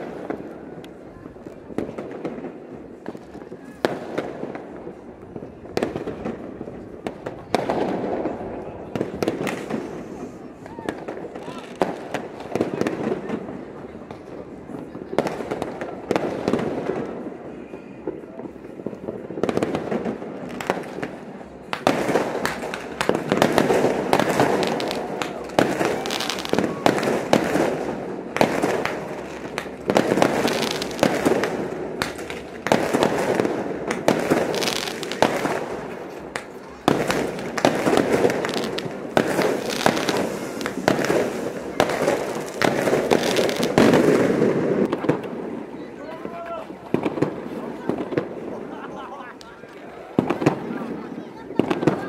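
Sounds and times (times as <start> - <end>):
fireworks banging and crackling: 0.0 - 52.0.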